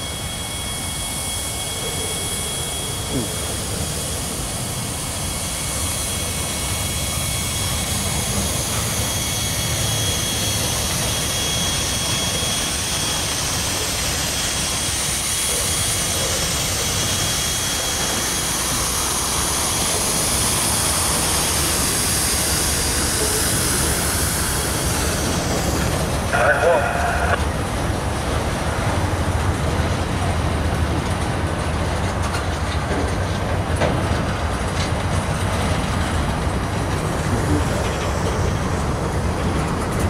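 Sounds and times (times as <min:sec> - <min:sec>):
steel wheels rumbling on rail: 0:00.0 - 0:40.0.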